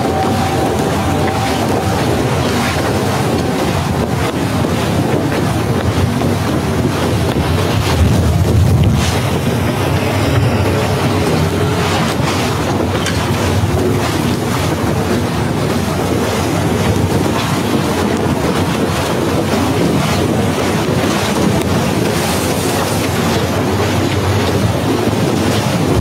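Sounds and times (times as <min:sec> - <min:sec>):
wind blowing on microphone: 0:00.0 - 0:26.0.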